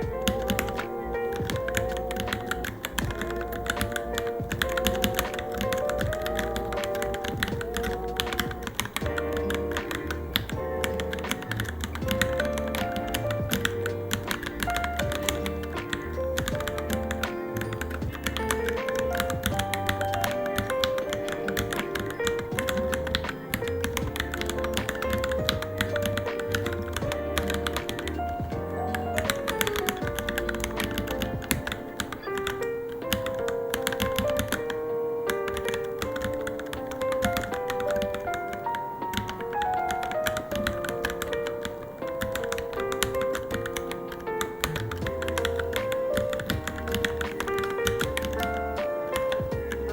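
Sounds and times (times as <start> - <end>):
background music with deep bass: 0.0 - 49.9
mechanical keyboard clicks: 0.0 - 49.9.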